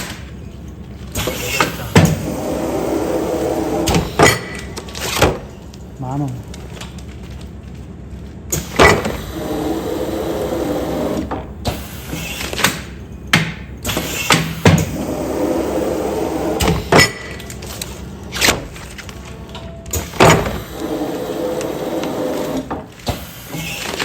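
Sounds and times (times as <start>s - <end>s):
motor hum: 0.7s - 12.2s, 13.8s - 24.0s.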